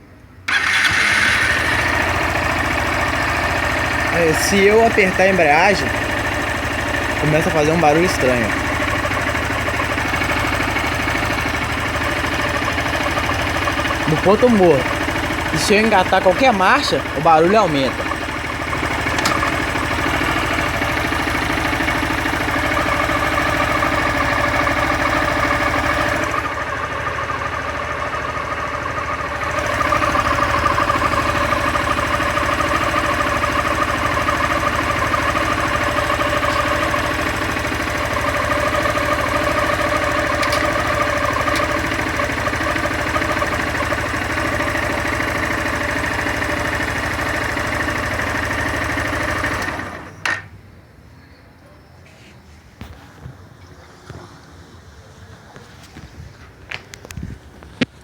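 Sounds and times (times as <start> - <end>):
motorcycle engine idling: 0.5 - 51.1.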